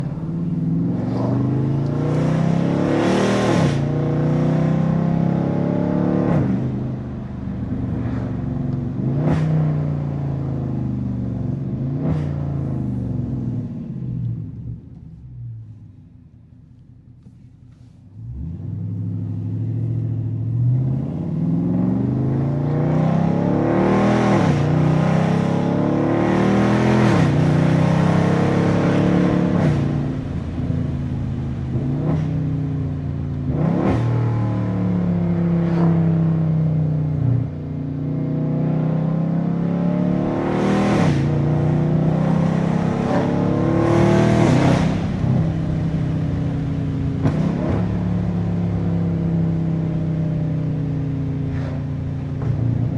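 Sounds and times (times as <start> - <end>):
car engine accelerating: 0.0 - 15.9, 16.6 - 52.9.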